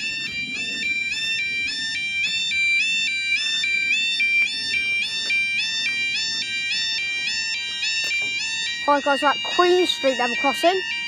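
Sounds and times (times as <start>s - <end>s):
faint outdoor background noise: 0.0s - 11.0s
level crossing two-tone alarm: 0.0s - 11.0s.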